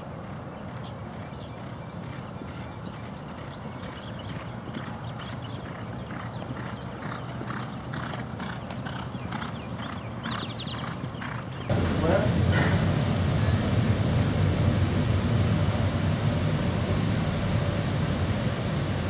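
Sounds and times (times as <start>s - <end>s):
horse galloping on dirt: 0.0s - 18.8s.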